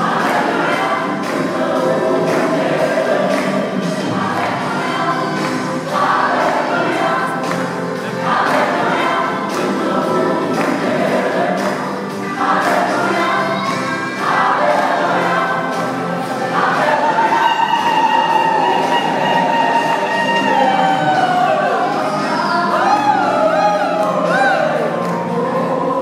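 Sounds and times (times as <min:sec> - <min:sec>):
choir singing with instrumental backing: 0:00.0 - 0:26.0.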